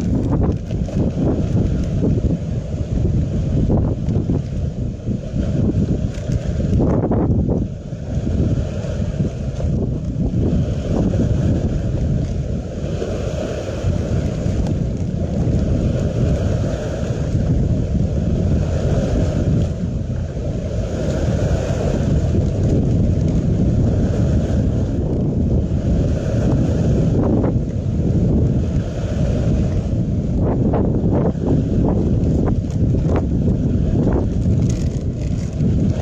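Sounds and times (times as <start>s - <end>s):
wind blowing across microphone: 0.0s - 36.0s.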